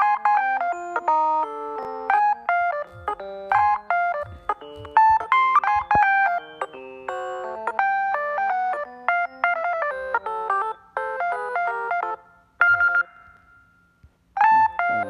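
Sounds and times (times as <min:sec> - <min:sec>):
phone ringtone melody: 0:00.0 - 0:15.0.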